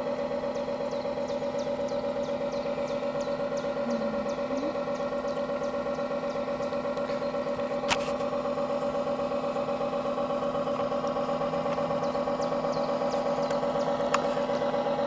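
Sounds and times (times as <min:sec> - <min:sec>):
model boat engine droning: 0:00.0 - 0:15.0.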